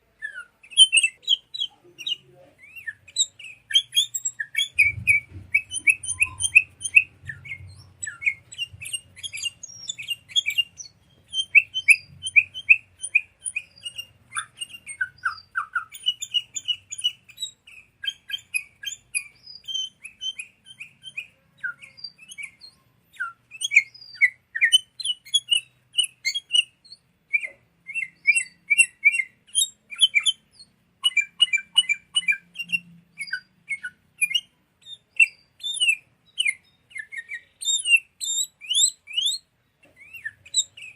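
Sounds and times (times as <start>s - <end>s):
birds chattering: 0.0s - 40.9s.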